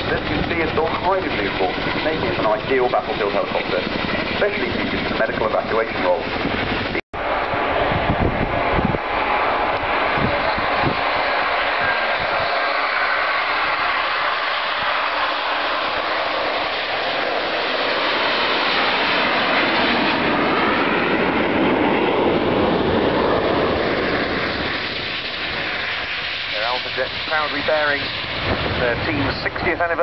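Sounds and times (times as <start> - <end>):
jet aircraft flying past: 0.0 - 30.0.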